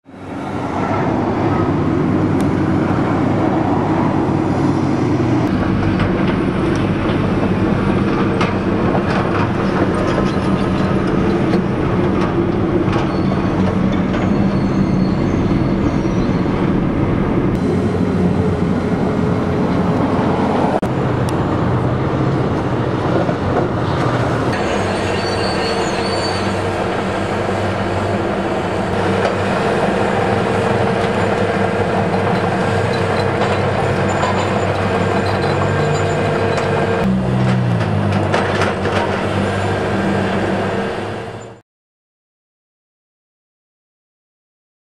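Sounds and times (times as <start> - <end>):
excavator diesel drone: 0.1 - 41.6.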